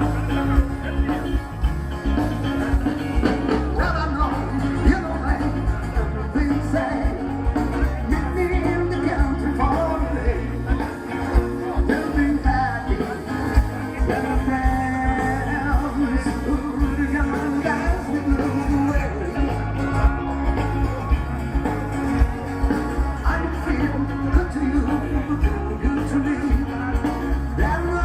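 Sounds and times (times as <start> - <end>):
rock and roll song: 0.0 - 28.0.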